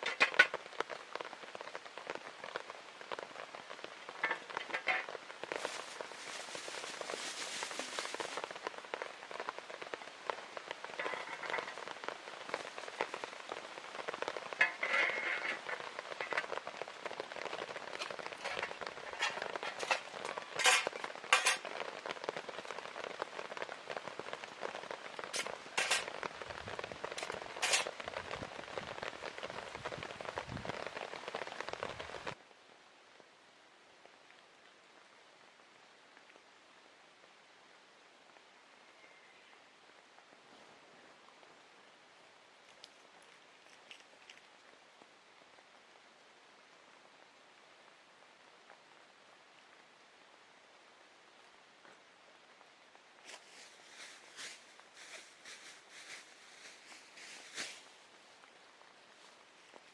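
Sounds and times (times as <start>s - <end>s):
faint steady hiss: 0.0s - 59.9s
rain pattering: 0.0s - 59.9s.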